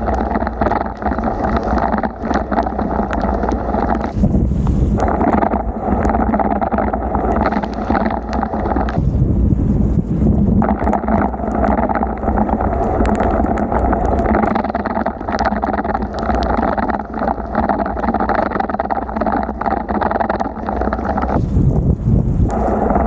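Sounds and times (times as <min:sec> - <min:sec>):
sharp ticks: 0:00.0 - 0:09.0, 0:10.6 - 0:21.4
wind rushing: 0:00.0 - 0:23.0.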